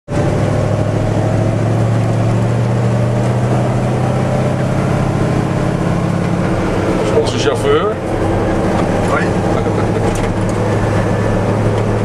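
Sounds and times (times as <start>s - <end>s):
truck engine droning: 0.1s - 12.0s.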